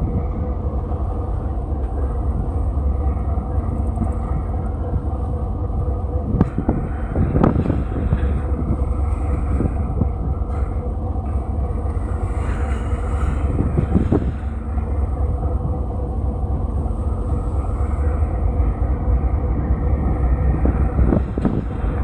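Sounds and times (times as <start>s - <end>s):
vehicle engine rumble: 0.0s - 22.0s
wind noise on microphone: 0.0s - 22.0s.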